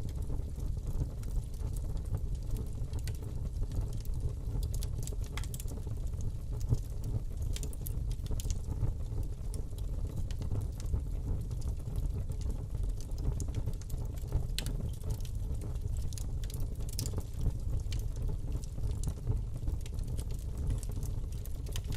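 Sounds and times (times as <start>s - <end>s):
fire burning in fireplace: 0.0s - 21.9s
fire crackles and pops: 0.0s - 21.9s.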